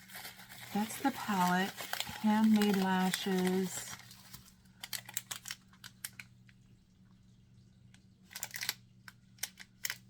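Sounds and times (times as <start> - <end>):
packaging crinkling and clicking: 0.0 - 6.6, 8.3 - 10.0
faint electrical hum: 0.0 - 10.0.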